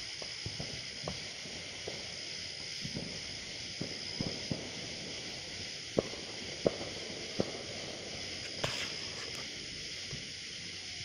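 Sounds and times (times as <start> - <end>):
steady high hiss: 0.0 - 11.0
distant firecracker pops: 0.1 - 10.4
soft crackle: 0.1 - 11.0.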